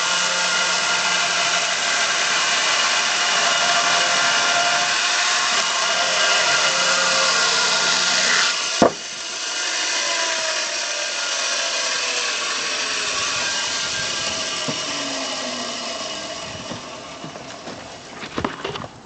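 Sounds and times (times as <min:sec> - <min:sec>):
electric chainsaw cutting wood: 0:00.0 - 0:18.9.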